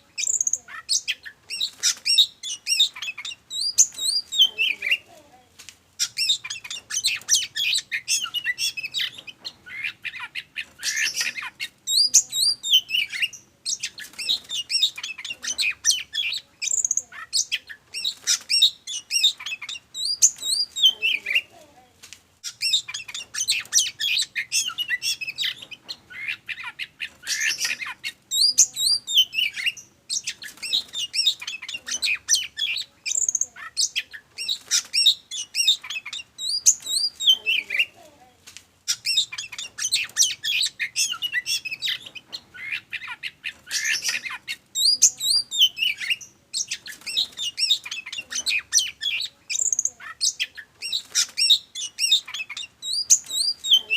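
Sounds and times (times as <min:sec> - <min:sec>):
songbird singing: 0:00.0 - 0:21.8, 0:22.4 - 0:53.9.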